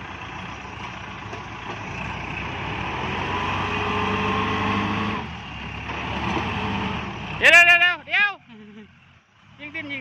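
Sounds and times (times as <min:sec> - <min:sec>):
tractor diesel engine revving: 0:00.0 - 0:10.0.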